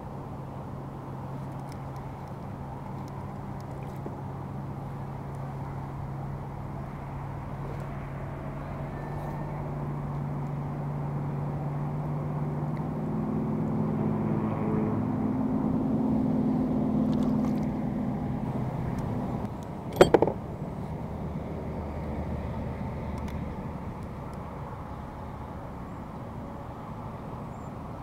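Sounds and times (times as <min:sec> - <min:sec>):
motor vehicle engine hum: 0:00.0 - 0:28.0.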